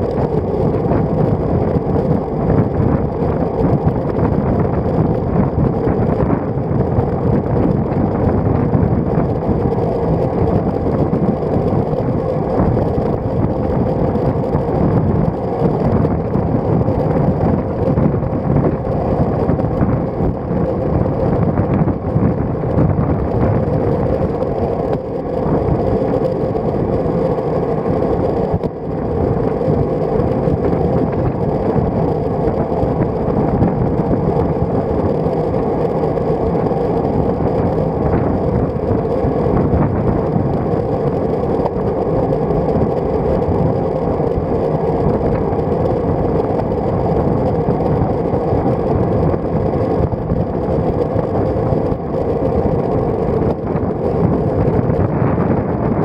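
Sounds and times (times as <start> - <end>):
steady low hum: 0.0 - 56.0
tyre and road noise: 0.0 - 56.0
wind rushing over camera: 0.0 - 56.0.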